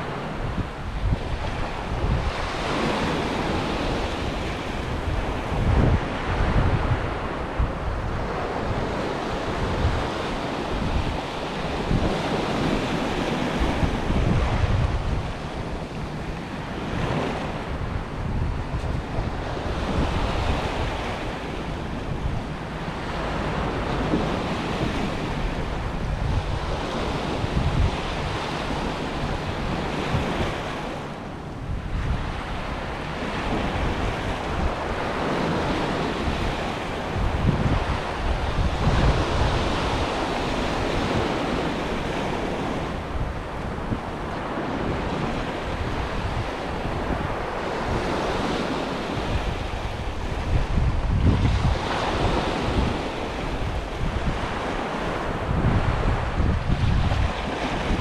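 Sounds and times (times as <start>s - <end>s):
sea waves breaking on beach: 0.0s - 58.0s
wind buffeting microphone: 0.0s - 58.0s.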